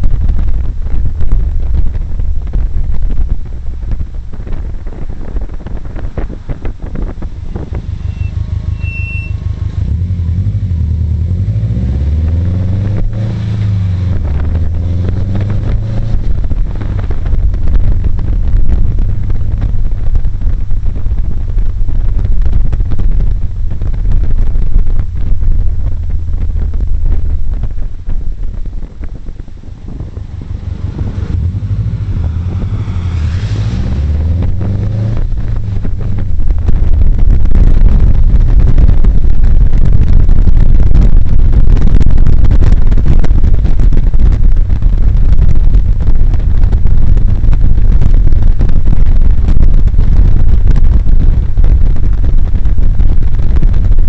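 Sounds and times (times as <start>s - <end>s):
car engine accelerating: 0.0s - 52.2s
wind buffeting microphone: 0.0s - 54.0s.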